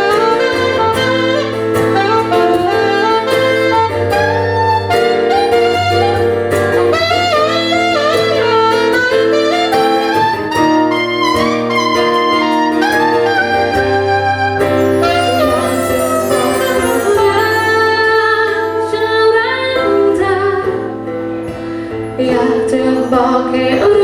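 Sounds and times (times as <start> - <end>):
instrumental music with wavering melody: 0.0 - 24.0.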